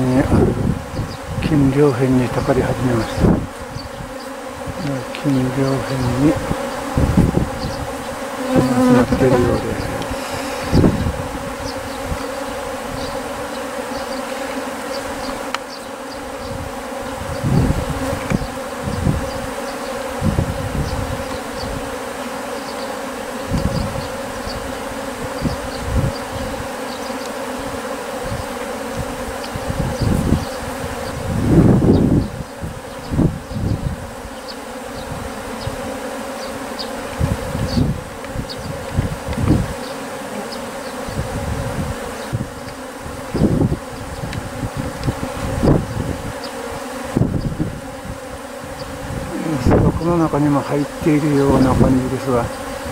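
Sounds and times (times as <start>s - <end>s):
bees buzzing in flight: 0.0s - 52.9s.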